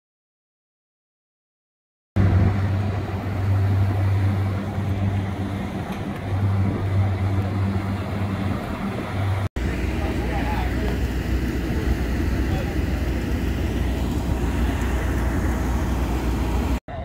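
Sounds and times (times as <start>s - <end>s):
low engine hum: 2.2s - 17.0s
outdoor background noise: 2.2s - 17.0s.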